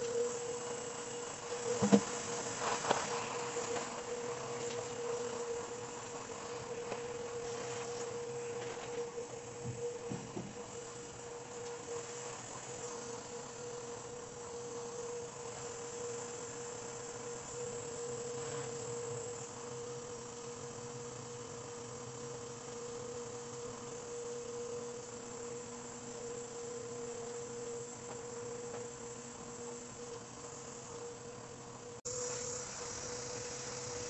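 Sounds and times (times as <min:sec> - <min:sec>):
hiss: 0:00.0 - 0:34.0
steady machine hum: 0:00.0 - 0:34.0.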